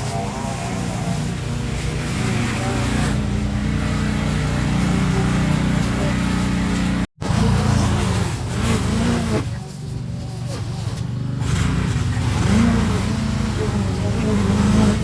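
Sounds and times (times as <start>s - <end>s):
small petrol engine running: 0.0s - 15.0s.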